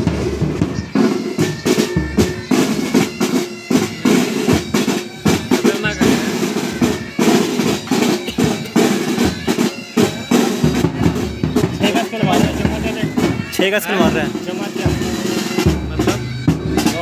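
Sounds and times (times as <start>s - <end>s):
bagpipes playing: 0.0s - 17.0s
side drums and bass drum: 0.0s - 17.0s.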